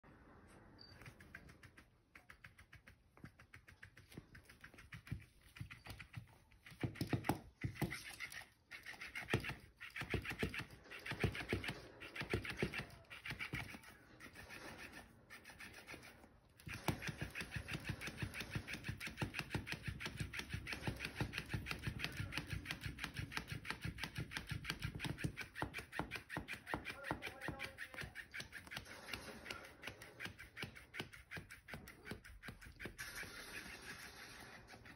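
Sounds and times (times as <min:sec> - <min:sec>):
toy tail slapping tile: 0:01.1 - 0:34.9
toy motor running: 0:04.0 - 0:34.9.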